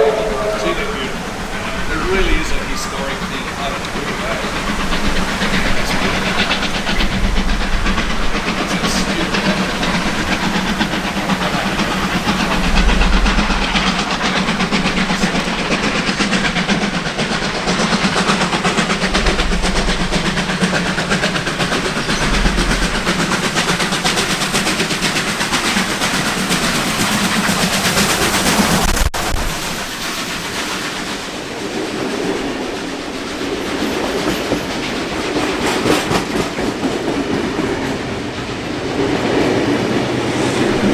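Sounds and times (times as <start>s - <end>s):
wheels clacking over rail joints: 0.0s - 29.0s, 29.9s - 40.9s
train engine hum: 0.0s - 40.9s
train wheels rumbling: 0.0s - 40.9s.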